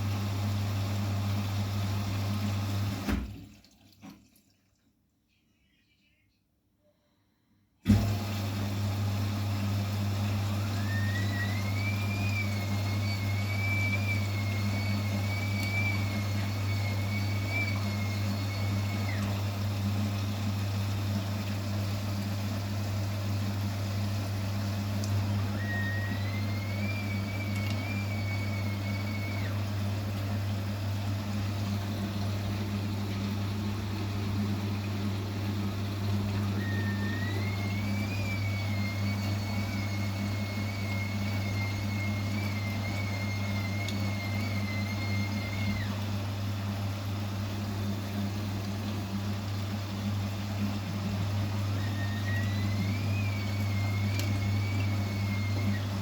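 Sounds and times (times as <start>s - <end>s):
washing machine motor whine: 0.0s - 3.6s, 7.8s - 56.0s
washing machine hum: 0.0s - 6.3s, 7.8s - 56.0s.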